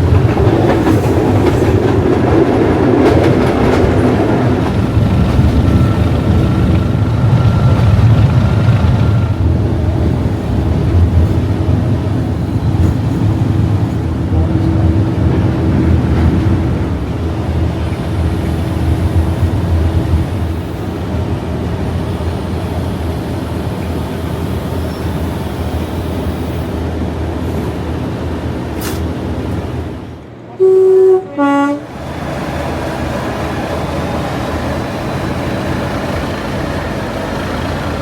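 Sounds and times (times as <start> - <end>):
diesel locomotive engine drone: 0.0 - 38.0.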